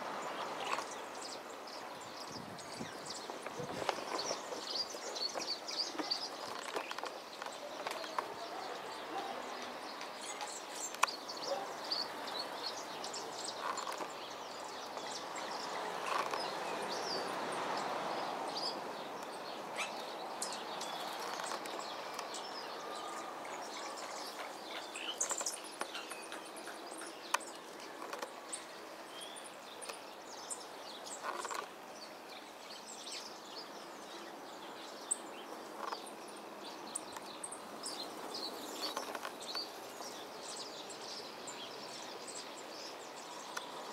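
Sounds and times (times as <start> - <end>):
birds chirping: 0.0 - 43.9
outdoor background noise: 0.0 - 43.9.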